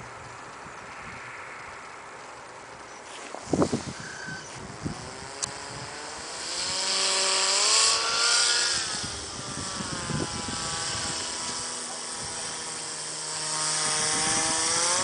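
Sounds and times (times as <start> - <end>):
model aircraft motor and propeller: 0.0 - 15.0.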